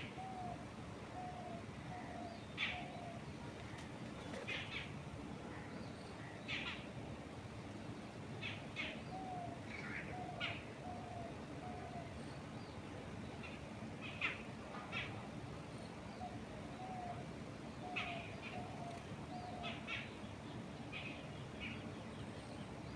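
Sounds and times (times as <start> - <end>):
songbirds chirping: 0.0 - 22.9
wind through trees: 0.0 - 22.9.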